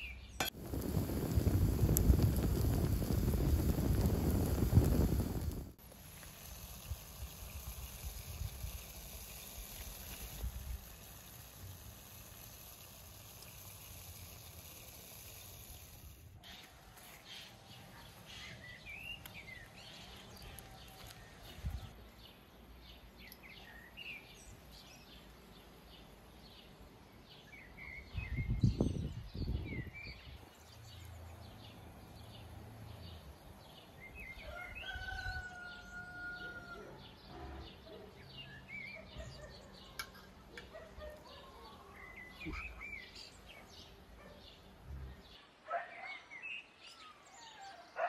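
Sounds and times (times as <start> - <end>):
songbirds chirping: 0.0 - 5.5, 6.5 - 48.0
rural background noise: 0.0 - 48.0.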